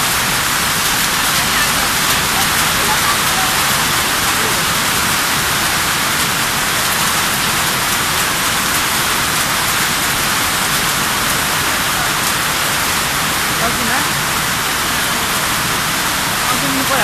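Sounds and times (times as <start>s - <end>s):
heavy rain on a plastic tarpaulin: 0.0s - 17.0s.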